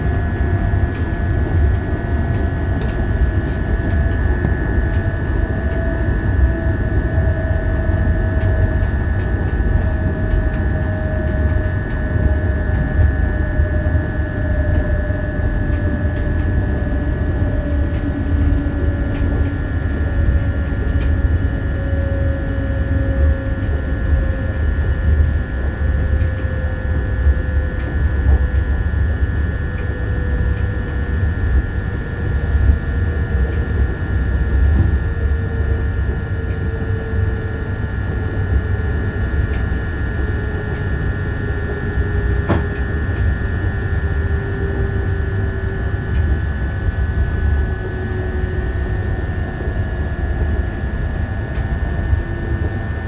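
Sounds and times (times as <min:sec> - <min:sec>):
faint falling whine: 0:00.0 - 0:53.0
train low rumble: 0:00.0 - 0:53.0
train motor whine: 0:00.0 - 0:53.0.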